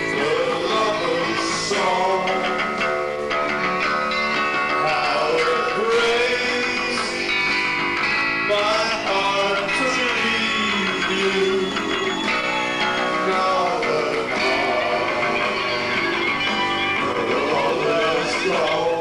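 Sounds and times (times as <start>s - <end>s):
man singing: 0.0s - 2.8s, 4.7s - 7.4s, 8.4s - 16.1s, 17.0s - 19.0s
live rock band playing: 0.0s - 19.0s.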